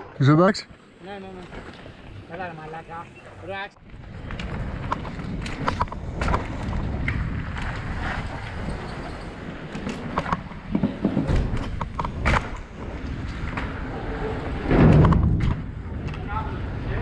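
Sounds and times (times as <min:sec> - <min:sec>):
bike tyres rumbling on paving: 0:00.0 - 0:17.0
bike knocking and rattling: 0:00.8 - 0:17.0.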